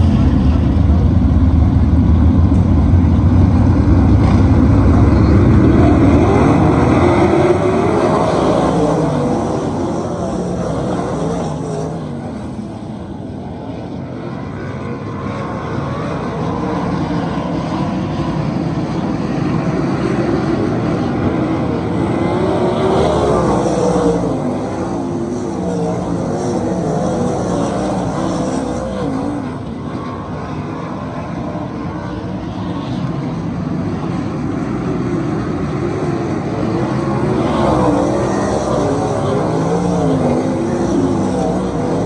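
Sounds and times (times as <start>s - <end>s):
race car engines passing: 0.0s - 42.0s.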